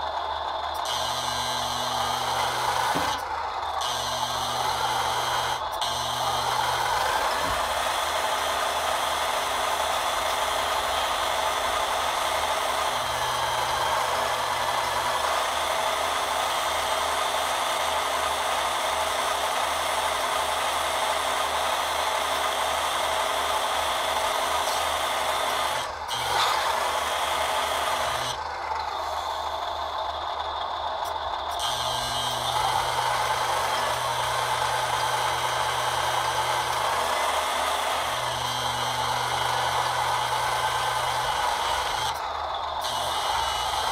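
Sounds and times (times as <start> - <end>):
hydraulic pump whirring: 0.0 - 43.9.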